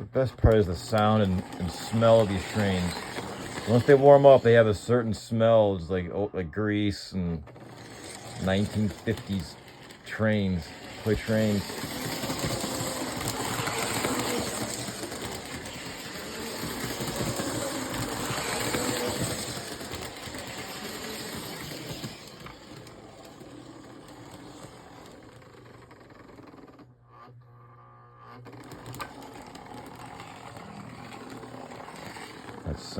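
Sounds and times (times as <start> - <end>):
toy locomotive motor buzzing: 0.0 - 5.7, 7.2 - 27.3, 27.9 - 32.9.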